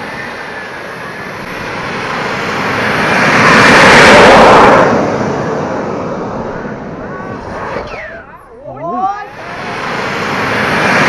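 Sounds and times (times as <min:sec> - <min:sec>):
model jet turbine rushing: 0:00.0 - 0:11.0.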